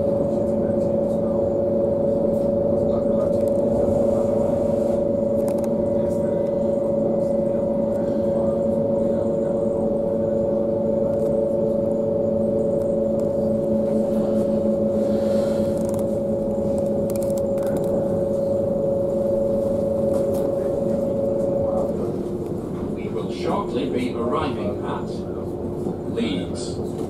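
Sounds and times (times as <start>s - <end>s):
droning hum of held notes: 0.0s - 27.0s
low train running rumble: 0.0s - 27.0s.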